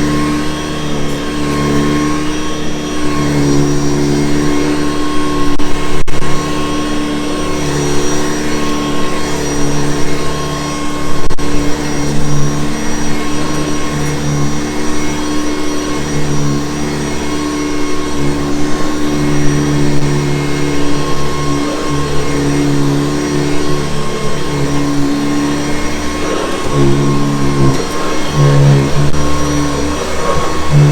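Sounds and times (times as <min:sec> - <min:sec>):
vacuum cleaner motor hum: 0:00.0 - 0:30.9.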